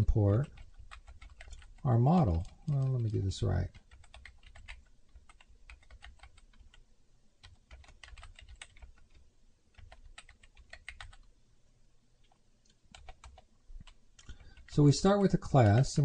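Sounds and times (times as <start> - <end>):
typing on computer keyboard: 0.0 - 6.8, 7.4 - 11.3, 12.2 - 14.8, 15.4 - 16.0.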